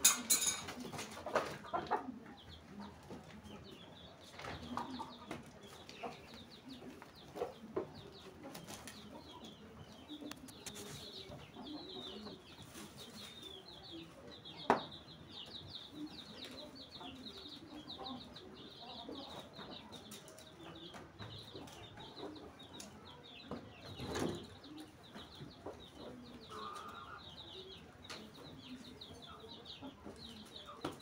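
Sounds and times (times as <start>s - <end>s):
birds chirping: 0.0s - 31.0s
chickens clucking: 0.0s - 31.0s.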